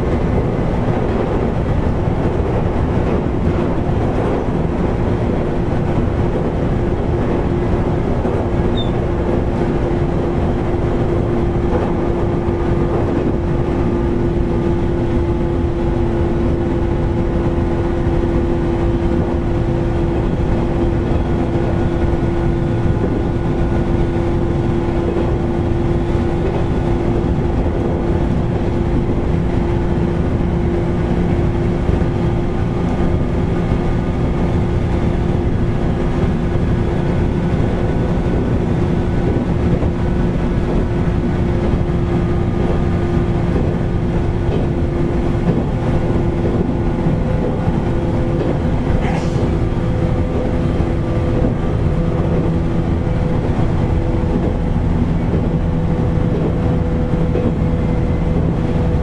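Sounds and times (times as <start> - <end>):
loud air conditioning: 0.0 - 59.0
train wheels rolling: 0.0 - 59.0.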